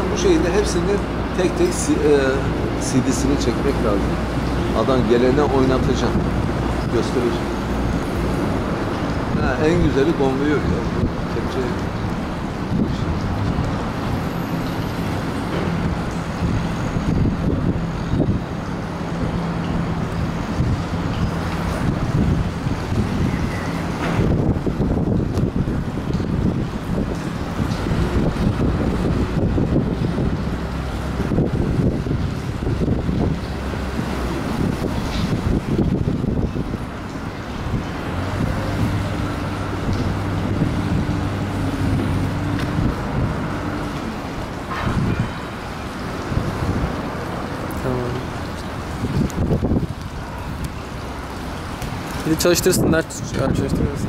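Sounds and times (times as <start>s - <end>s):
boat engine running: 0.0s - 52.4s
wind buffeting microphone: 0.0s - 54.0s.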